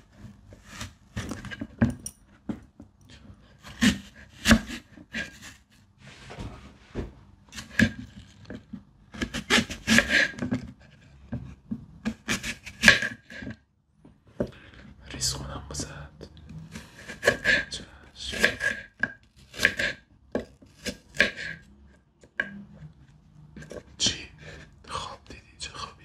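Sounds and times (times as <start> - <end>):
fruit being cut and handled: 0.0 - 2.0, 2.6 - 5.8, 7.5 - 13.6, 14.4 - 24.8.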